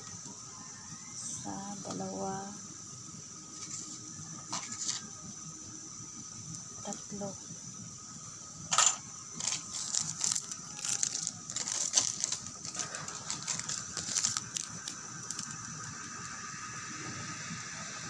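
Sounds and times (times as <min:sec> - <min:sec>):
soup boiling and bubbling: 0:02.0 - 0:18.0.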